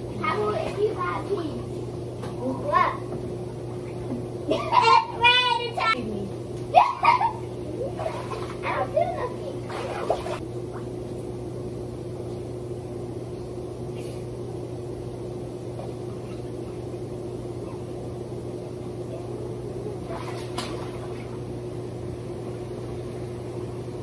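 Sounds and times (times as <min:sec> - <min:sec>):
hot tub pump motor humming: 0:00.0 - 0:24.0.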